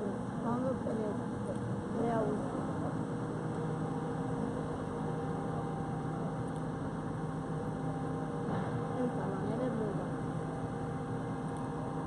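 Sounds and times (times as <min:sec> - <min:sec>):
diesel engines humming: 0:00.0 - 0:12.0.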